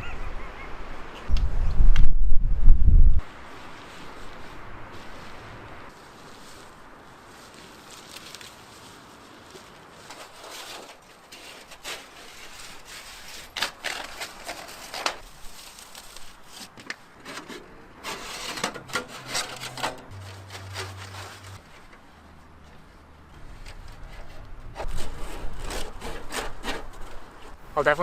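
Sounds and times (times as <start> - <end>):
rubbing and scraping: 3.5 - 28.0.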